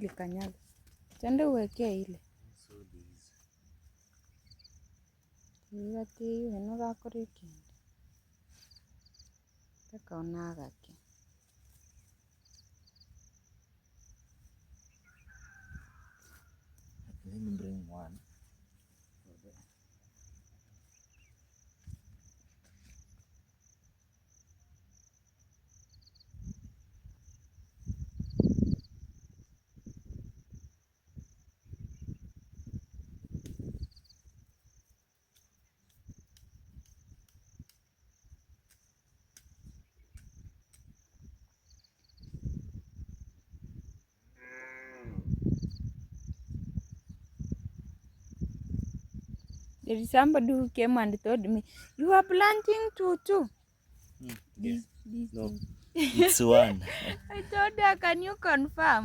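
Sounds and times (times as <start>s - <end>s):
cricket trilling: 0.0s - 59.0s.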